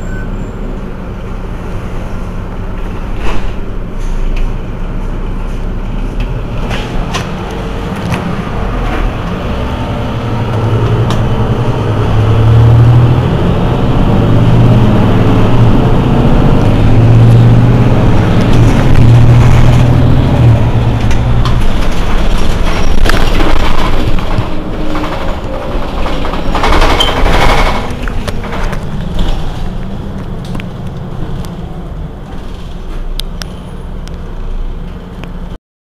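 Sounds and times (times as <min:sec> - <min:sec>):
bus diesel engine droning: 0:00.0 - 0:35.6.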